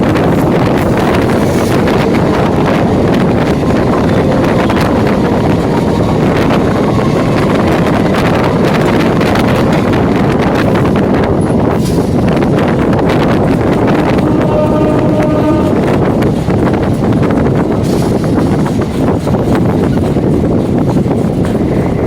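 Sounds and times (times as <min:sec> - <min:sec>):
train rumbling: 0:00.0 - 0:22.0
wind buffeting microphone: 0:00.0 - 0:22.0.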